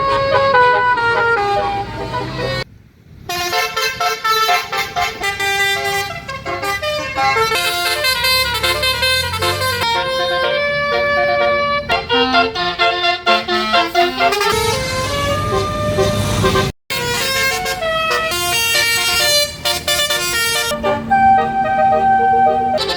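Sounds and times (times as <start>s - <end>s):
multi-tone bus horn melody: 0.0s - 22.9s.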